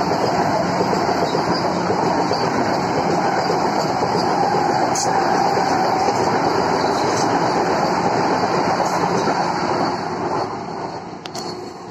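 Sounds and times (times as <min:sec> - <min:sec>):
train passing at speed: 0:00.0 - 0:11.9.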